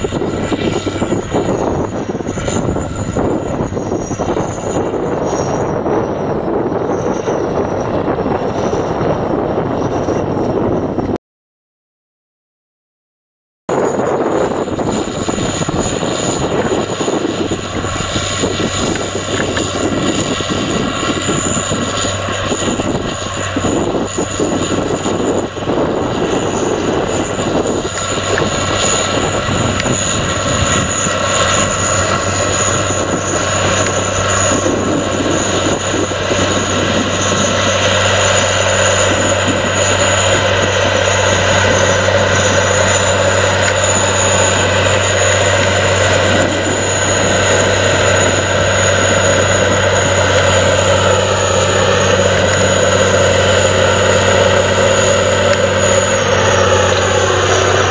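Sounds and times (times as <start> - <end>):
tractor diesel engine running: 0.0 - 11.1, 13.8 - 57.9.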